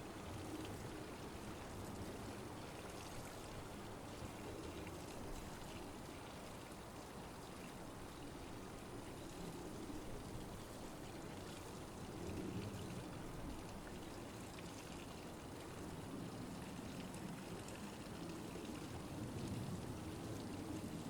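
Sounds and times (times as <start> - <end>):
faint flowing water: 0.0 - 21.0.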